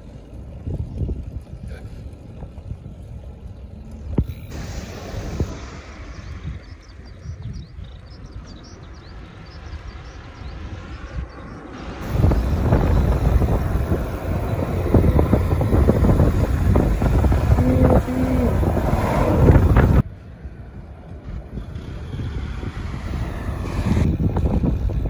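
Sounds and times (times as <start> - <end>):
wind buffeting microphone: 0.0 - 25.0
road traffic passing: 3.5 - 25.0.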